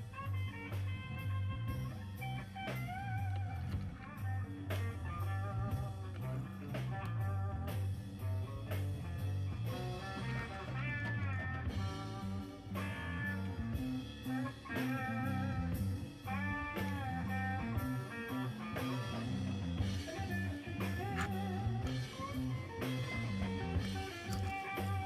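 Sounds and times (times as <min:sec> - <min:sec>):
steady bass line: 0:00.0 - 0:25.0.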